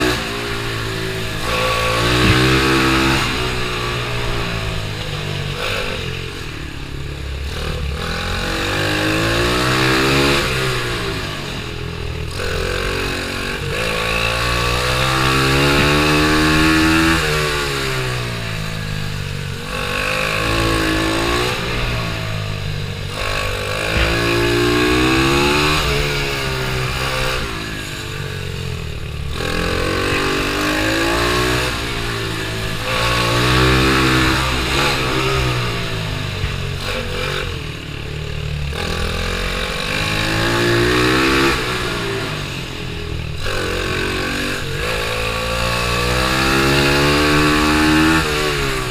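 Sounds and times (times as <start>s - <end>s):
pit bike engine revving: 0.0s - 48.9s.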